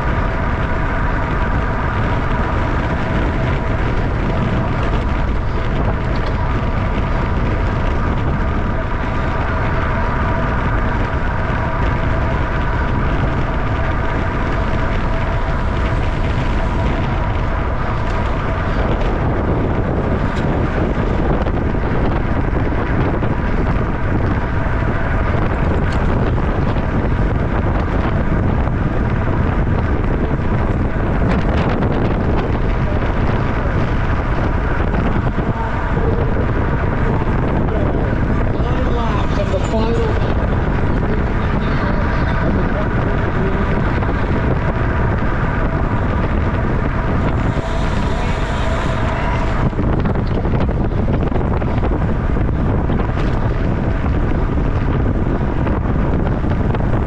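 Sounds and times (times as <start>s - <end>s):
steady whine: 0.0s - 57.0s
wind rushing over microphone: 0.0s - 57.0s.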